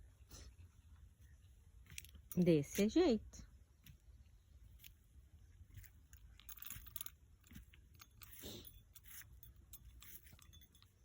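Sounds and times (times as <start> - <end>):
soft rustle: 0.0 - 11.0.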